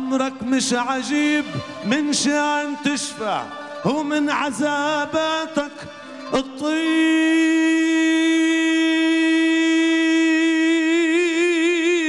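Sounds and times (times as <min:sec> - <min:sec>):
man singing long held note: 0:00.0 - 0:12.0.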